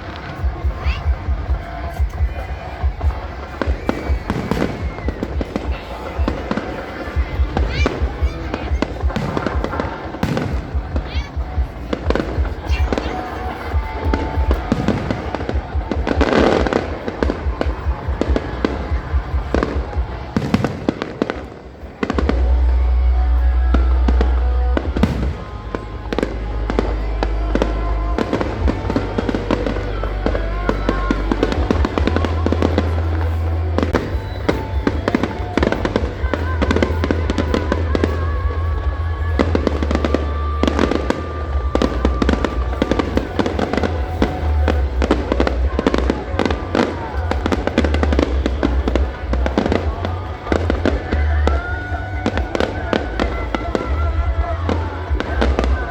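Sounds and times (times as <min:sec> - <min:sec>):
fireworks bangs and crackling: 0:00.0 - 0:55.9
steady low rumble: 0:00.0 - 0:55.9.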